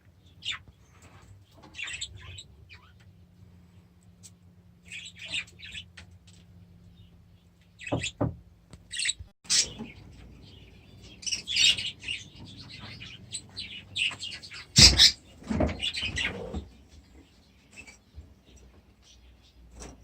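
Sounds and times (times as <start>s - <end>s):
cage birds chirping: 0.0s - 20.0s.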